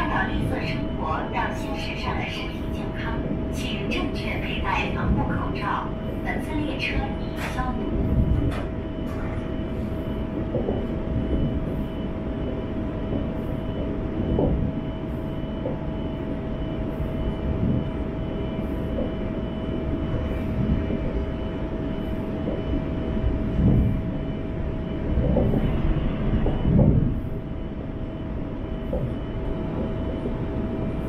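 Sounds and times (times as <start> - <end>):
electric train rumbling with whine: 0.0 - 31.0.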